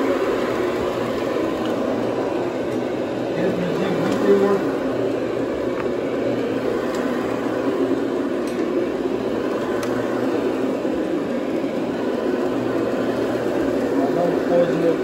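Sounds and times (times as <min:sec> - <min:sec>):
carpet cleaning machine humming: 0:00.0 - 0:15.0.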